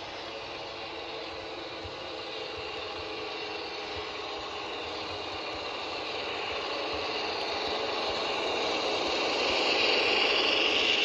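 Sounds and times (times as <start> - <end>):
model train wheels on rail: 0.0 - 11.0.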